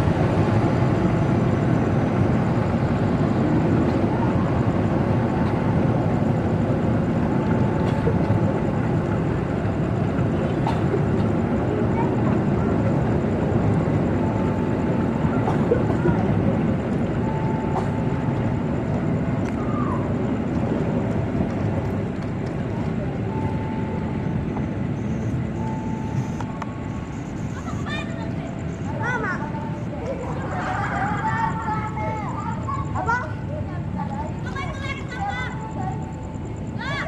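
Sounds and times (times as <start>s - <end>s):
passenger train rumbling past: 0.0s - 37.0s.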